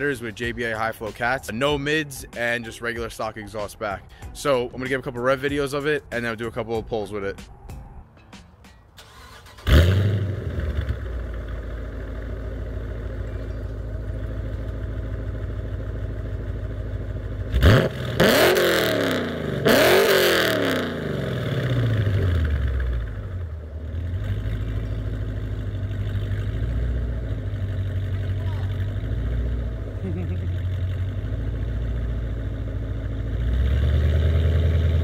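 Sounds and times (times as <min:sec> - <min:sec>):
car engine idling and revving: 0:00.0 - 0:05.9, 0:07.4 - 0:35.0.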